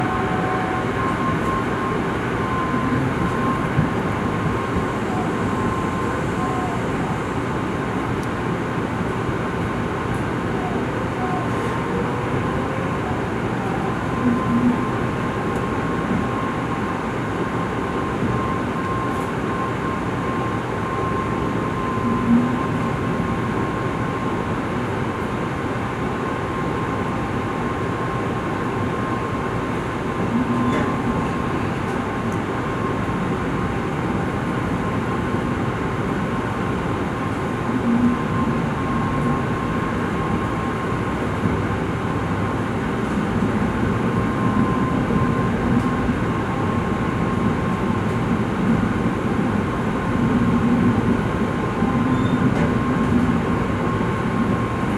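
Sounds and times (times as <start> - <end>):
train running noise: 0.0 - 54.9.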